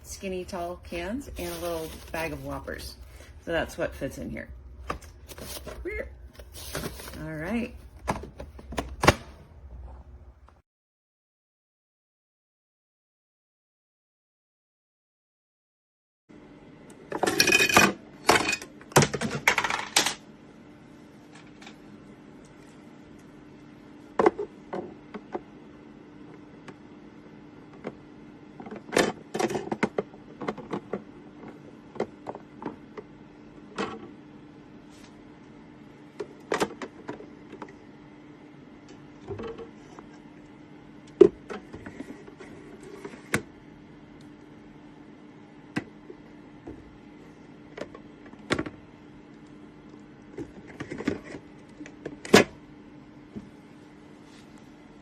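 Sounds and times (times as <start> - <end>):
fridge fan humming: 0.0 - 10.6, 16.3 - 55.0.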